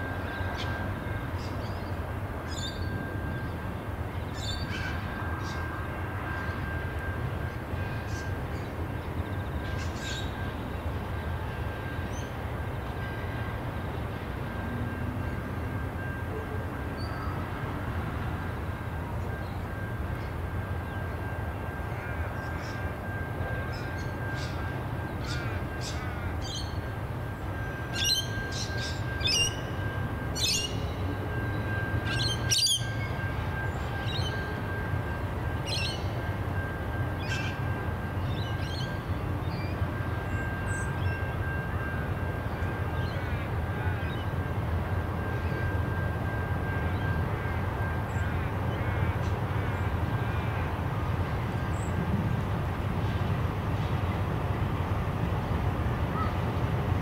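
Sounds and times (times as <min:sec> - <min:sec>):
diesel locomotive rumble: 0:00.0 - 0:57.0.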